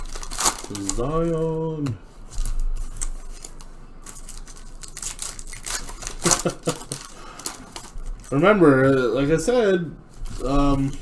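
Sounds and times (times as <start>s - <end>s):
cards being handled: 0.0s - 9.3s
foil wrapper crinkling: 0.0s - 9.5s.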